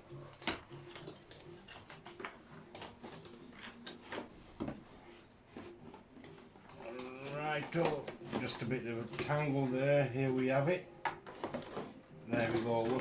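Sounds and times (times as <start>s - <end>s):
unpacking clicks and knocks: 0.2s - 9.7s, 11.0s - 13.0s.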